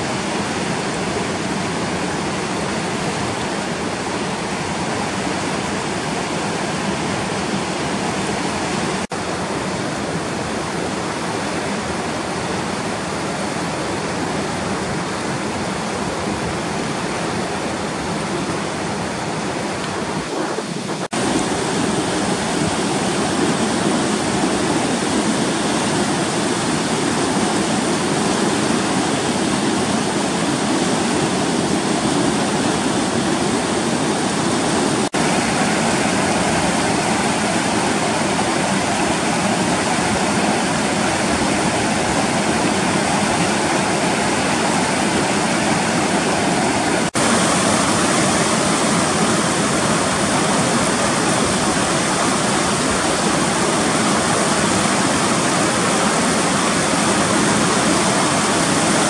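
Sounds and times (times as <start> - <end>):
river rapids rushing over boulders: 0.0 - 59.0.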